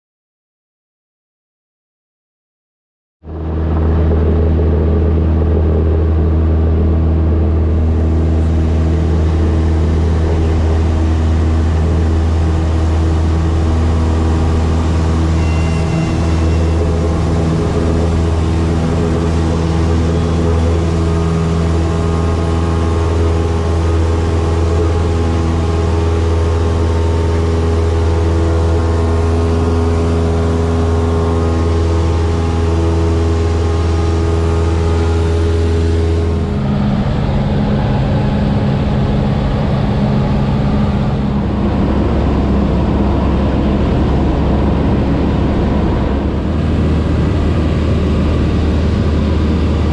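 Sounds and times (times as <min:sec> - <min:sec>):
airplane engine and propeller drone: 0:03.2 - 0:49.9.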